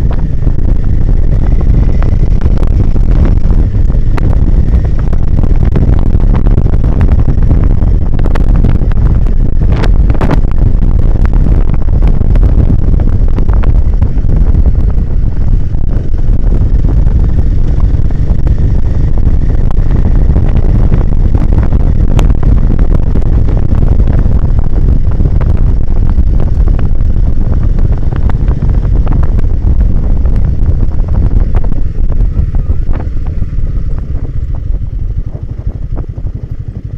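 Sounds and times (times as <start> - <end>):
motorcycle engine running: 0.0 - 36.9
wind buffeting microphone: 0.0 - 36.9.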